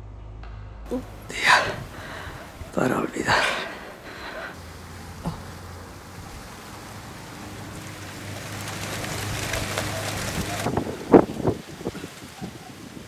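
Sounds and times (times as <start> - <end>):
wind gusting: 0.9 - 13.0.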